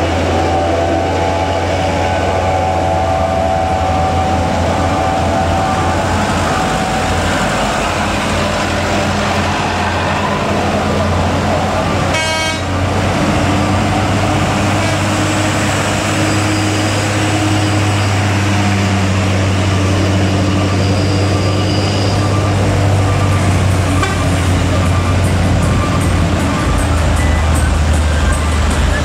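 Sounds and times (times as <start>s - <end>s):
diesel truck engines droning: 0.0s - 29.0s.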